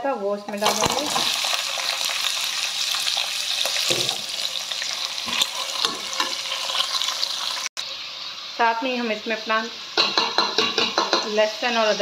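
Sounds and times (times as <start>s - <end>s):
meat sizzling in hot oil: 0.5s - 12.0s.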